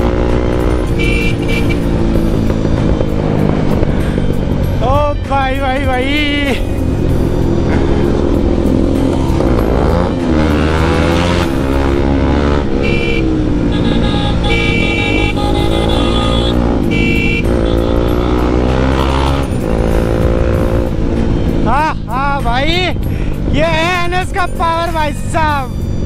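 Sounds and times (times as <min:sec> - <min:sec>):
motorcycle engine revving: 0:00.0 - 0:05.1, 0:05.8 - 0:22.4.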